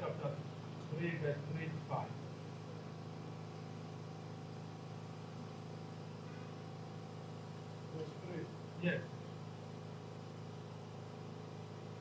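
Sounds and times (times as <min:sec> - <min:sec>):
steady low mechanical hum: 0:00.0 - 0:12.0.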